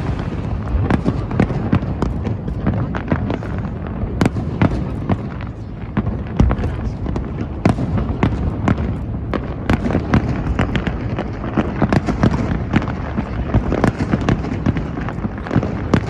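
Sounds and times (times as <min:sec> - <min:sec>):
fireworks bangs: 0:00.0 - 0:16.0
low rumble and crackle: 0:00.0 - 0:16.0.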